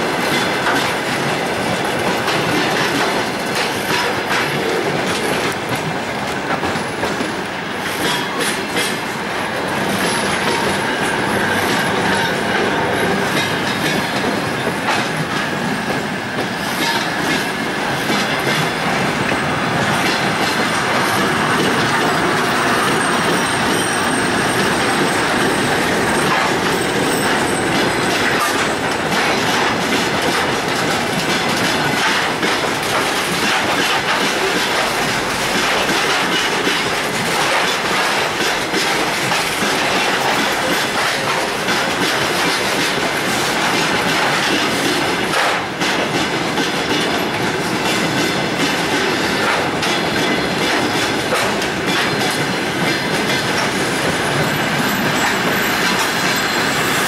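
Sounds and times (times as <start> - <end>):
freight train rolling past: 0.0 - 57.0
wheels clicking over rail joints: 0.1 - 57.0.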